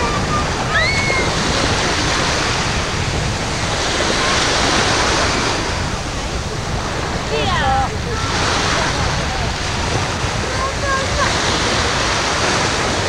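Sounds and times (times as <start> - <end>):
sea water sloshing and splashing: 0.0 - 13.0
wind buffeting microphone: 0.0 - 13.0.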